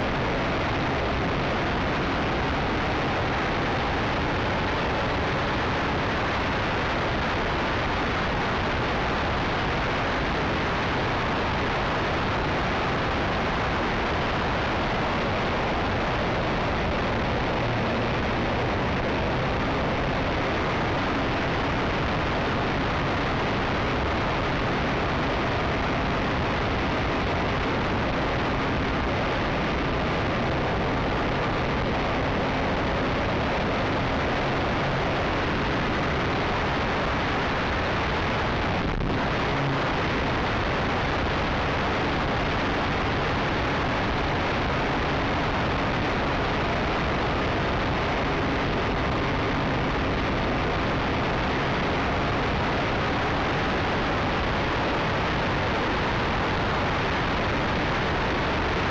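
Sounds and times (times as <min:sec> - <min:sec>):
wind noise: 0:00.0 - 0:58.9.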